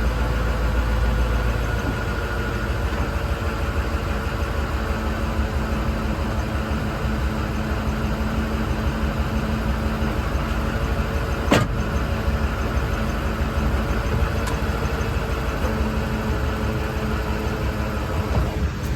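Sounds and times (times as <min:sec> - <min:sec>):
truck engine rumbling: 0:00.0 - 0:18.9.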